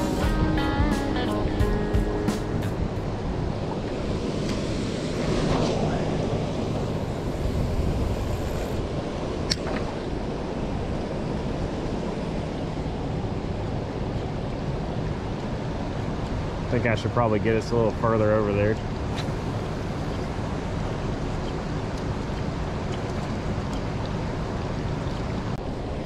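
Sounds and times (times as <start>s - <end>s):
wind rumbling on microphone: 1.5s - 26.0s
moving water: 2.4s - 26.0s.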